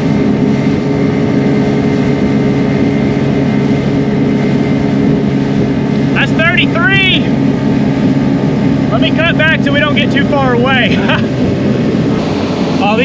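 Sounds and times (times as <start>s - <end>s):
outboard motor running: 0.0s - 13.0s
rushing water: 0.0s - 13.0s
wind: 0.0s - 13.0s.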